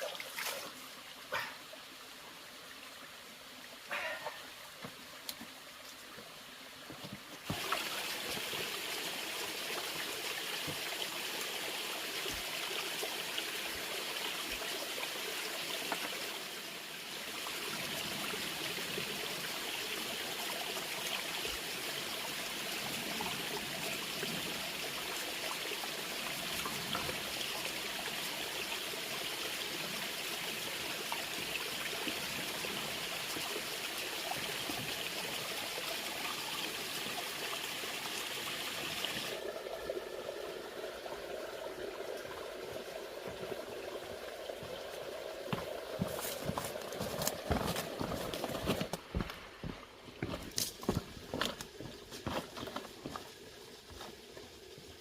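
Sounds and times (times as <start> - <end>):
water trickling like a stream: 0.0 - 55.0.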